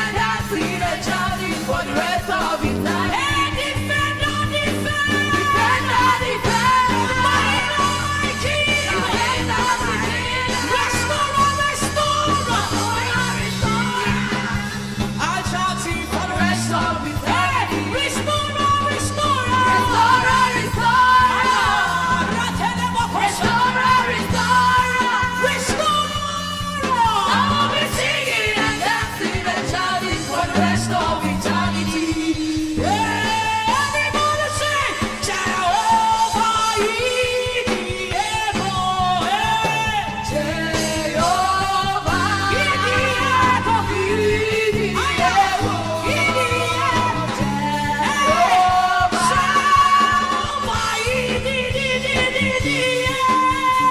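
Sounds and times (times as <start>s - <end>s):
live band accompaniment: 0.0s - 53.9s
woman singing gospel: 0.0s - 53.9s.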